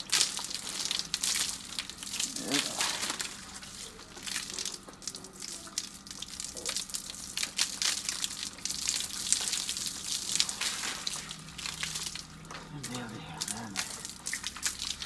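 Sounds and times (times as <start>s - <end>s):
hose water splashing on concrete: 0.0s - 15.0s.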